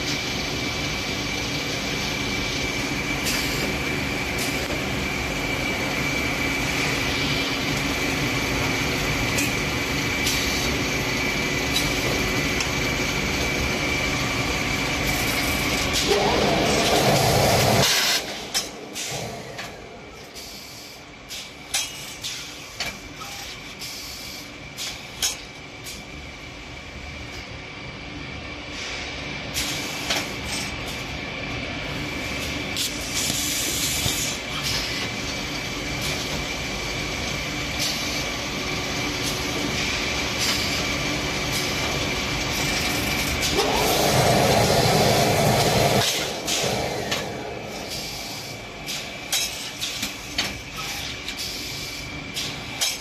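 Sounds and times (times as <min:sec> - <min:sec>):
steady machine noise: 0:00.0 - 0:21.4, 0:26.2 - 0:53.0.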